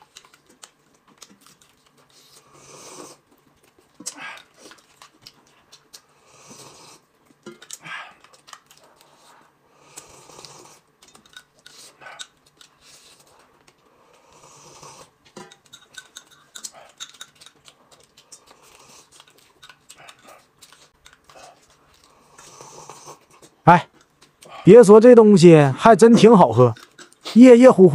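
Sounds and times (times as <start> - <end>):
chewing chicken: 0.0 - 14.2, 15.0 - 24.6.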